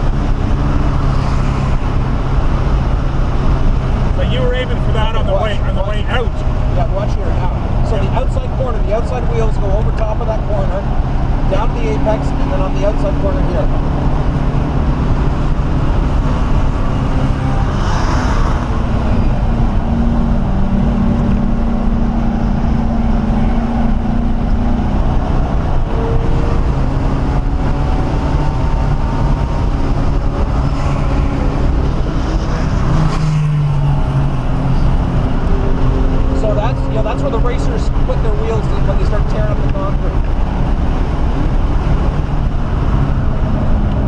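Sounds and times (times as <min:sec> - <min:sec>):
car engine accelerating: 0:00.0 - 0:44.0
road and wind noise: 0:00.0 - 0:44.0.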